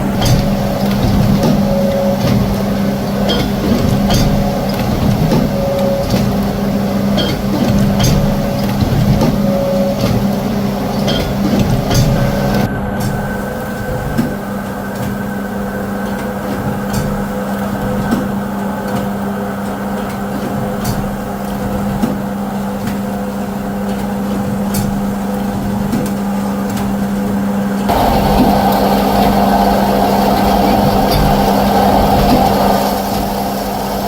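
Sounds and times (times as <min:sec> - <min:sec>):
machinery humming and clattering: 0:00.0 - 0:34.0.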